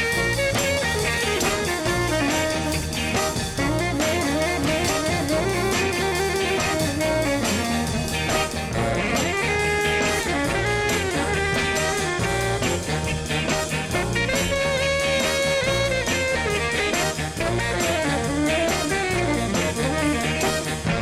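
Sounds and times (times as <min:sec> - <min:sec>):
upbeat music with horn melody: 0:00.0 - 0:21.0.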